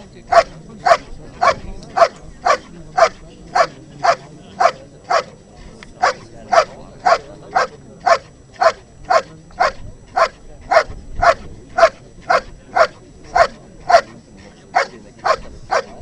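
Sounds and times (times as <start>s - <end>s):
dog barking sharply: 0.3s - 5.3s, 6.0s - 14.1s, 14.8s - 16.0s.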